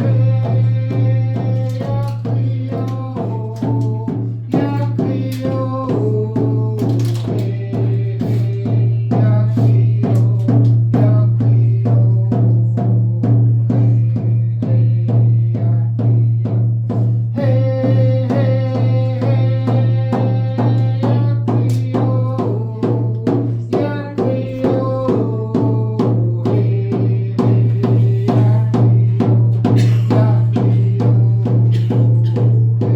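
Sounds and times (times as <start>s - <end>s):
fast drumbeat: 0.0s - 32.9s.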